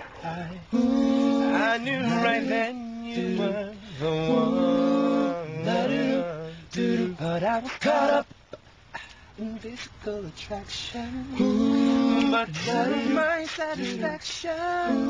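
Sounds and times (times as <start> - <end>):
man singing unaccompanied: 0.0 - 8.4, 9.3 - 15.0.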